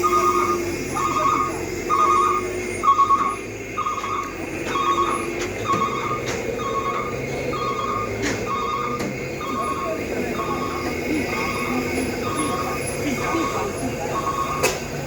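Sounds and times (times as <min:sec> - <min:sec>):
engine humming: 0:00.0 - 0:15.0
reversing alarm beeping: 0:00.0 - 0:15.0.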